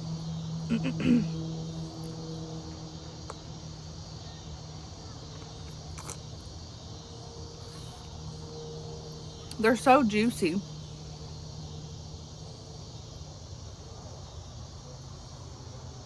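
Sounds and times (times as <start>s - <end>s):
low steady hum: 0.0s - 13.8s
insects chirring: 0.0s - 16.0s.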